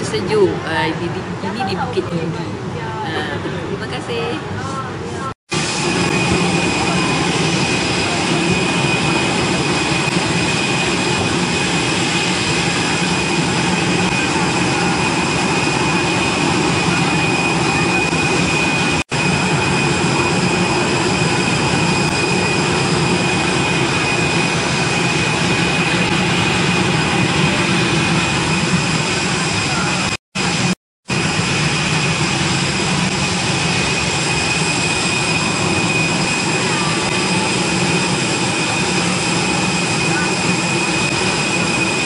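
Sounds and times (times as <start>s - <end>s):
jet turbine running: 5.5s - 42.0s.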